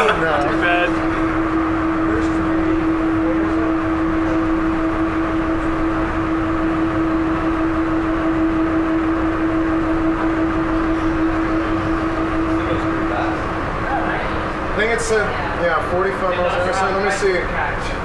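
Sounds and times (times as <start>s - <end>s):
electric motor whine: 0.0s - 15.5s.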